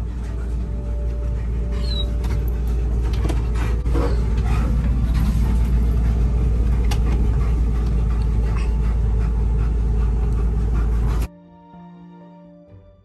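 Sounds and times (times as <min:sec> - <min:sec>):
road noise inside moving car: 0:00.0 - 0:11.3.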